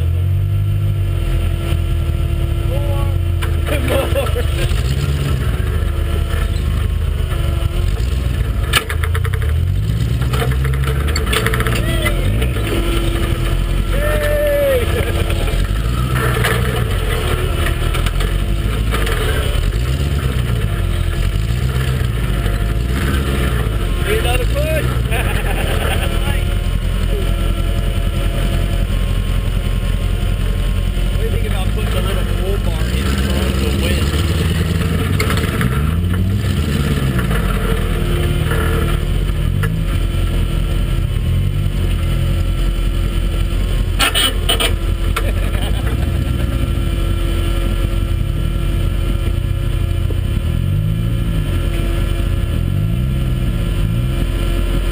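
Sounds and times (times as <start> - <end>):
off-road engine revving: 0.0 - 54.9.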